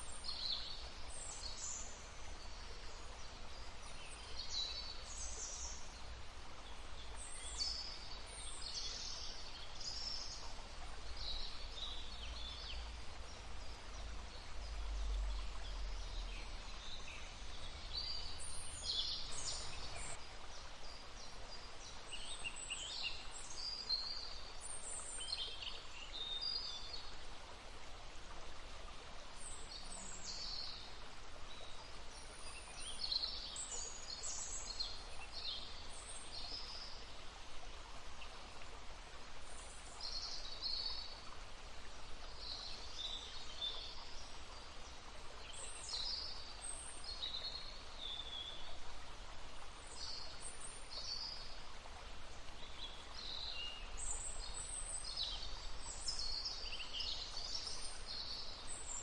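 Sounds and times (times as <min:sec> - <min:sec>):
babbling stream: 0:00.0 - 0:59.0
songbirds chirping: 0:00.0 - 0:59.0.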